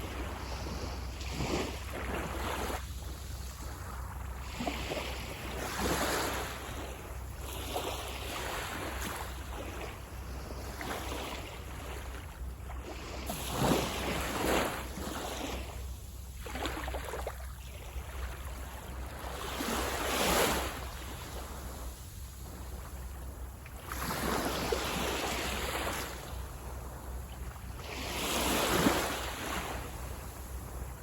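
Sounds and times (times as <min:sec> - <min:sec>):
sea waves breaking on a beach: 0:00.0 - 0:31.0.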